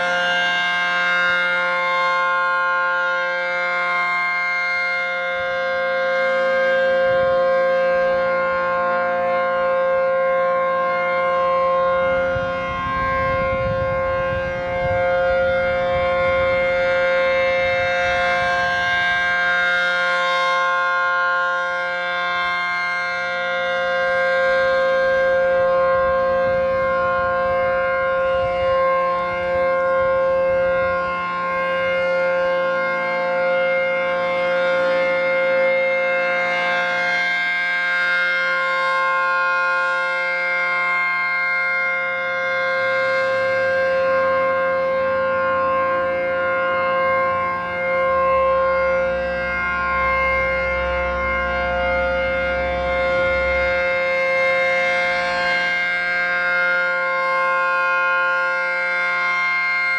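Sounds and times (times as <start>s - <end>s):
warning siren steady tone: 0.0s - 59.9s.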